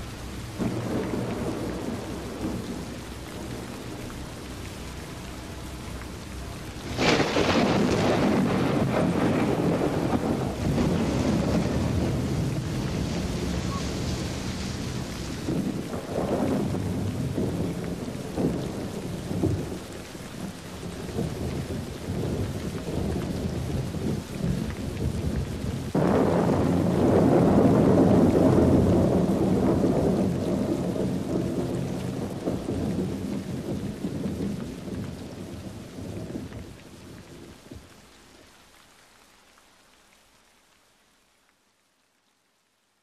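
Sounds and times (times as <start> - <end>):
thunder rumbling: 0.0 - 37.9
rain: 0.0 - 43.0.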